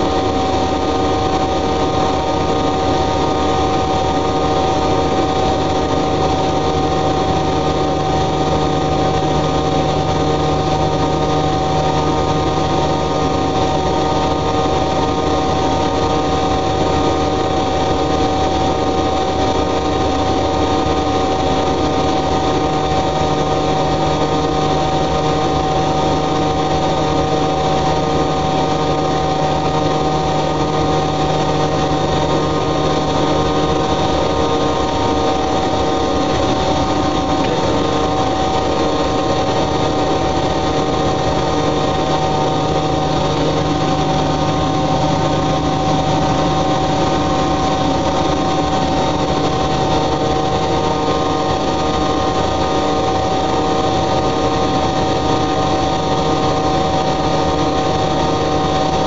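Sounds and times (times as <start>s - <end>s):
low hum: 0.0s - 58.9s
washing machine motor whine: 0.0s - 59.0s.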